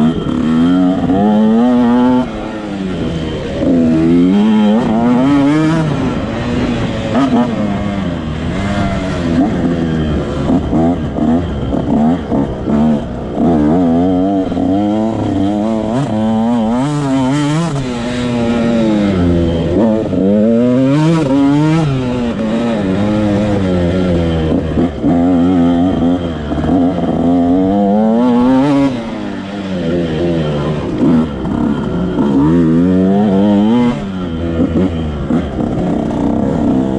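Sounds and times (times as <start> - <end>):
motocross bike engine revving: 0.0 - 36.9.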